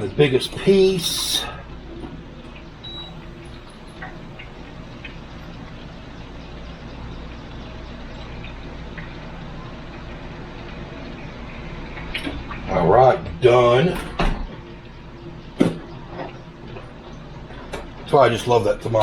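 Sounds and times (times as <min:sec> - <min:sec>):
appliance humming with hiss: 0:00.0 - 0:19.0.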